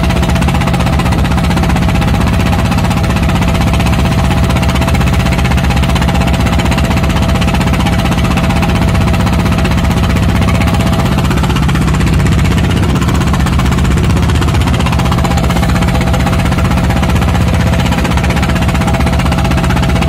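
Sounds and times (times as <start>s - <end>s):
boat engine pulsing: 0.0s - 20.0s.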